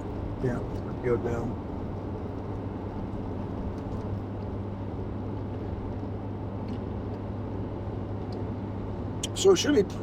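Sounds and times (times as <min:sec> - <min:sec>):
car interior road noise: 0:00.0 - 0:10.0.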